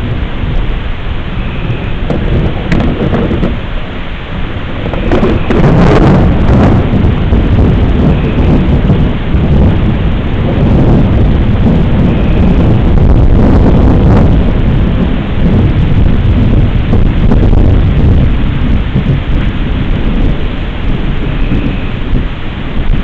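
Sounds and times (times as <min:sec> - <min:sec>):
deep thunder rumble: 0:00.0 - 0:23.0
rain falling: 0:00.0 - 0:23.0.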